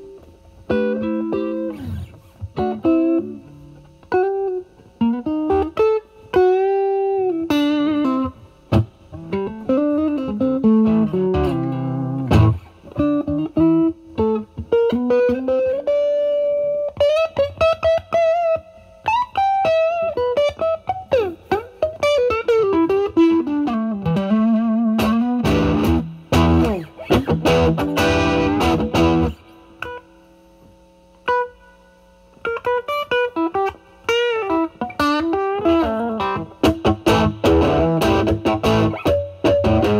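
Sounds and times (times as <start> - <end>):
electric guitar strummed chords: 0.0 - 39.9
overdriven electric guitar blues lead: 0.0 - 39.9.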